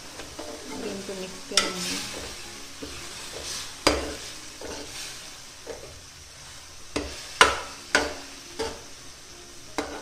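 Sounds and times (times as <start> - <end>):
light sizzle: 0.0 - 10.0
metal ladle scraping a pan: 0.2 - 8.9, 9.8 - 10.0.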